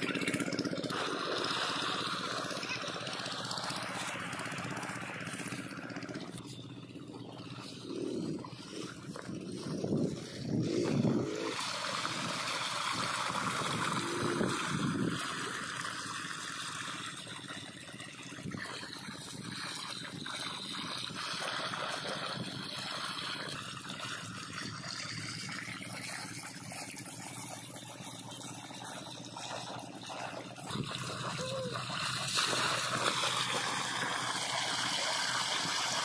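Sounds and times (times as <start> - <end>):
water flowing from pipe: 0.0 - 36.0.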